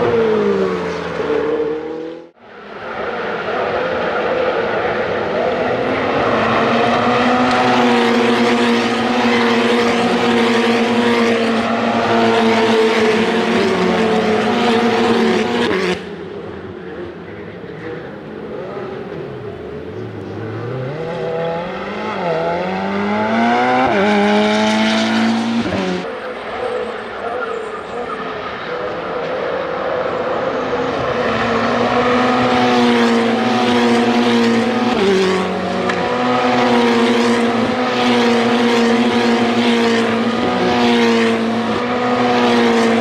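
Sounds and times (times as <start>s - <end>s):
race car engine high note: 0.0s - 43.0s
car engine shifting gears: 4.6s - 43.0s.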